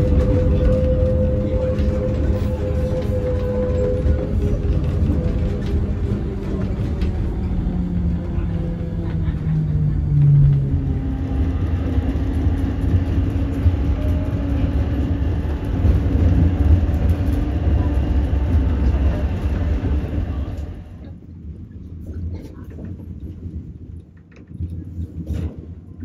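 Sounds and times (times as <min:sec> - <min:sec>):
tram wheels and motor rumbling: 0:00.0 - 0:26.0.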